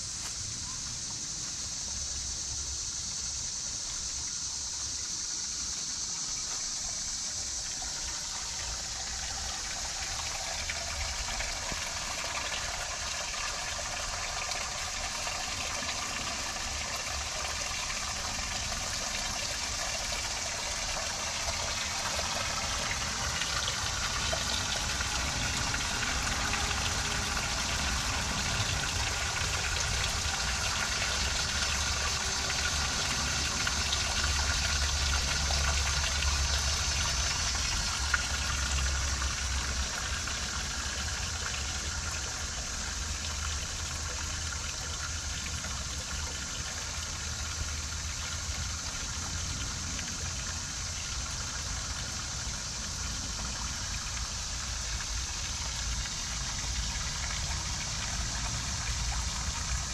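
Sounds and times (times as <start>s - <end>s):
water pouring and splashing: 5.8s - 59.9s.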